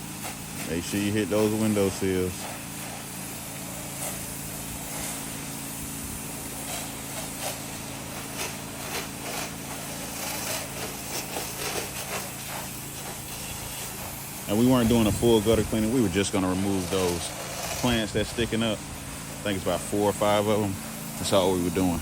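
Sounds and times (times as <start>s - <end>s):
pressure washer engine hum: 0.0s - 22.0s
spray spattering on surfaces: 0.0s - 22.0s
water jet hissing: 0.0s - 22.0s.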